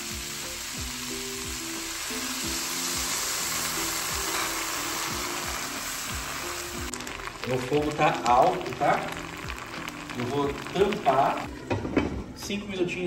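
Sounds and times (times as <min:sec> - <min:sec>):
food sizzling in a pan: 0:00.0 - 0:11.8
background music with plucked notes: 0:00.0 - 0:13.0.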